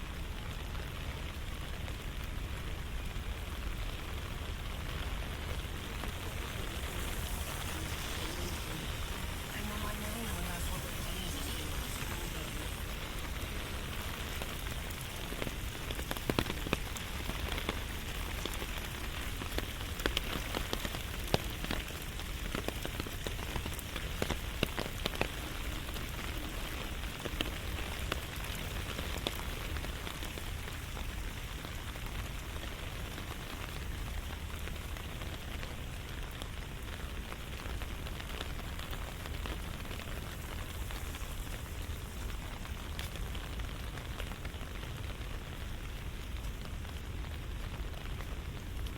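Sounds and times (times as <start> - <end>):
steady rain: 0.0 - 48.9
sharp raindrop hits: 0.1 - 48.9.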